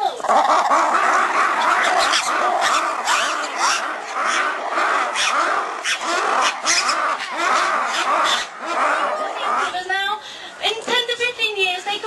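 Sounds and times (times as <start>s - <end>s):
animal calling: 0.0s - 10.2s.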